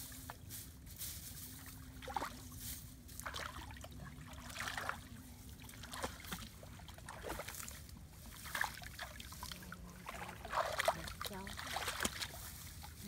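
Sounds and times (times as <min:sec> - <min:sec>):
muddy water splashing: 0:01.4 - 0:13.0.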